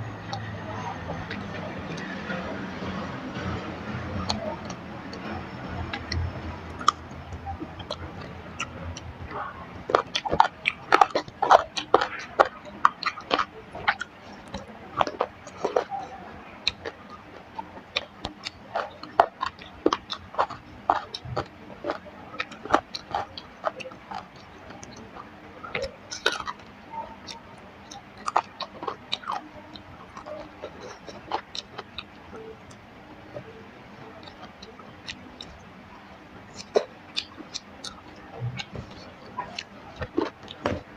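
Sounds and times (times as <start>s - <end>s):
wet chewing: 0.0s - 40.9s
lip-smacking clicks: 0.1s - 40.9s.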